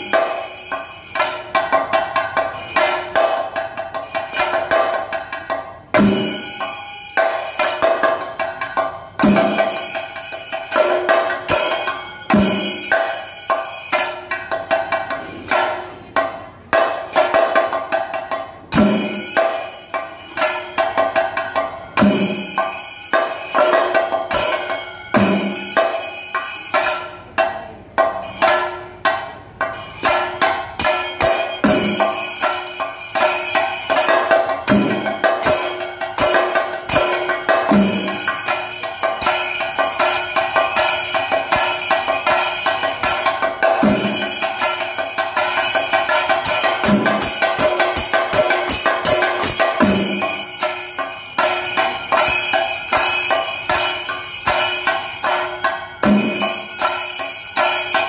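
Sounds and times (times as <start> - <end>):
drums struck with sticks in rolls: 0.0 - 58.0.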